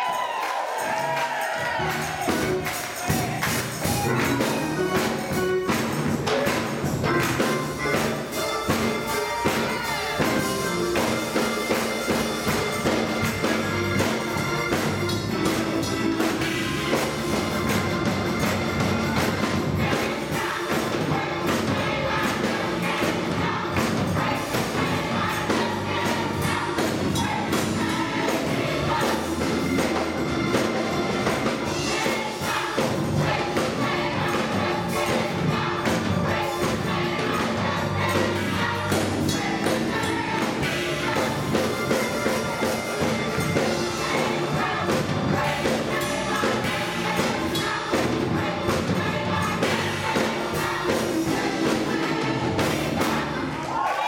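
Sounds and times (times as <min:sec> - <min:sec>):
keyboard accompaniment: 0:00.0 - 0:53.6
gospel choir singing: 0:00.0 - 0:54.0.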